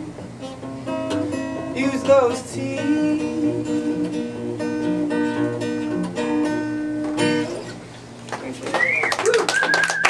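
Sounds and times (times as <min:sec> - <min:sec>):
acoustic guitar: 0:00.0 - 0:09.6.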